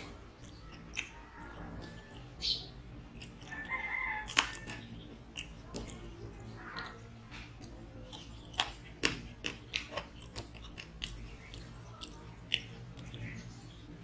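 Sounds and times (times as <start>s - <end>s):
person chewing food with wet smacks: 0.0s - 14.0s.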